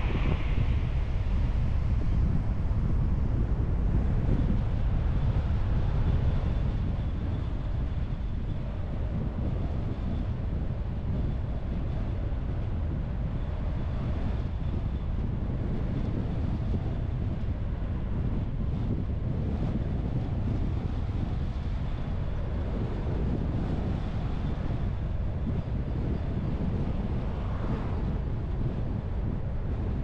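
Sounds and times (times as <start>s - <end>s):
car driving on road: 0.0s - 15.6s, 20.2s - 30.0s.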